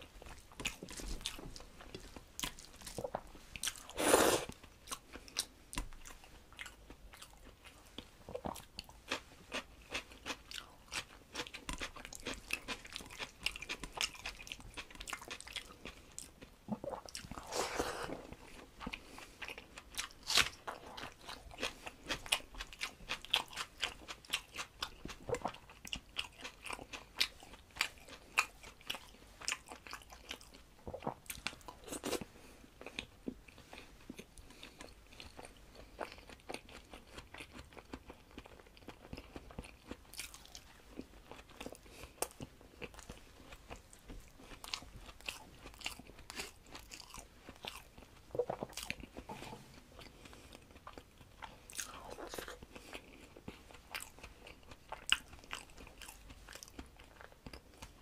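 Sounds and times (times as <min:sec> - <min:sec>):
man chewing wetly: 0:00.0 - 0:58.0.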